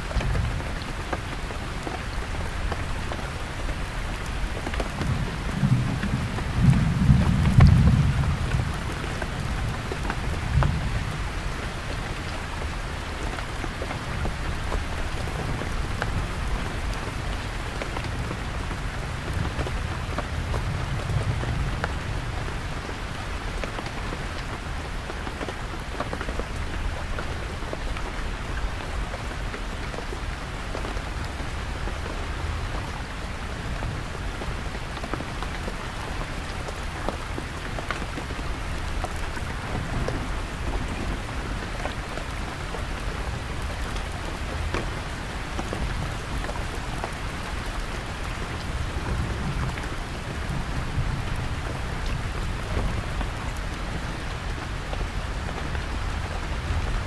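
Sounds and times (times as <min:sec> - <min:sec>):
rain on a canvas tent: 0:00.0 - 0:57.0.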